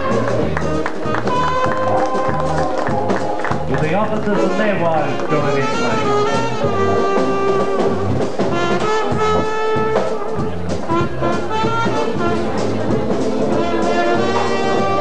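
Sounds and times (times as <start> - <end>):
ballroom dance music with brass: 0.0 - 15.0.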